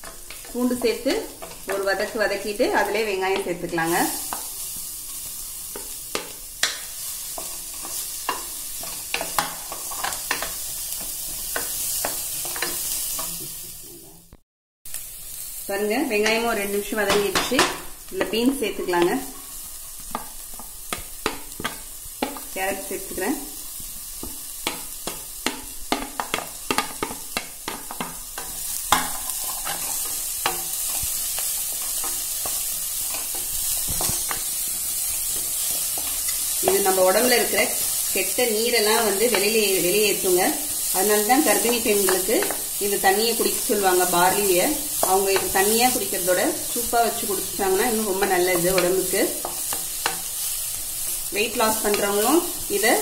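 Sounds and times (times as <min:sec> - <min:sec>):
onion and garlic sizzling in butter: 0:00.0 - 0:53.0.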